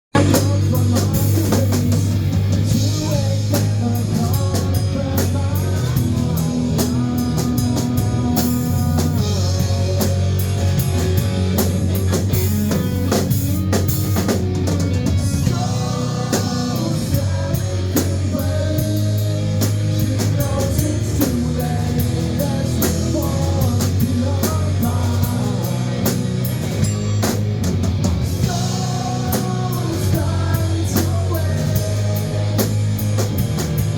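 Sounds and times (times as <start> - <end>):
rock band playing live: 0.1 - 33.9.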